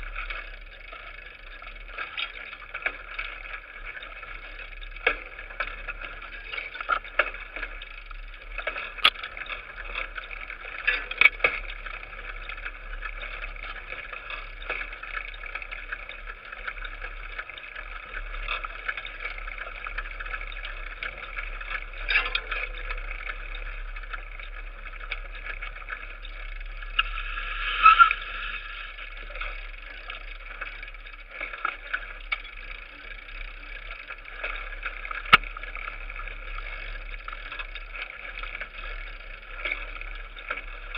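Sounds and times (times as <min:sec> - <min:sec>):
bike knocks and rattles: 0:00.0 - 0:28.0, 0:29.0 - 0:40.9
bike tyres rolling on dirt: 0:00.0 - 0:40.9.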